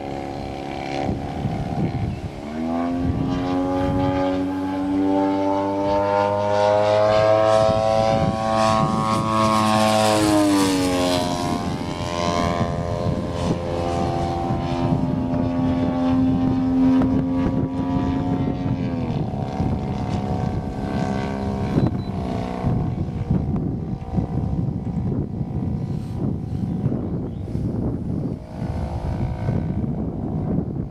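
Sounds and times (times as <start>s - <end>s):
model plane propeller engine droning: 0.0s - 30.9s.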